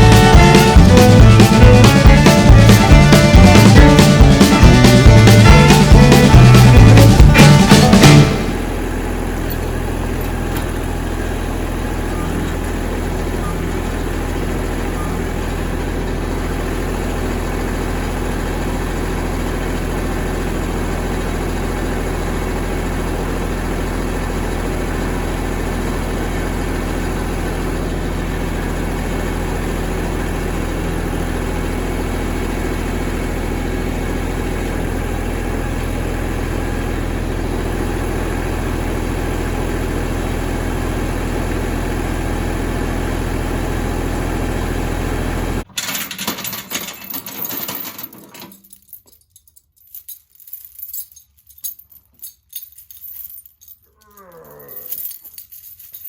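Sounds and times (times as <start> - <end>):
vehicle engine idling: 0.0 - 45.7.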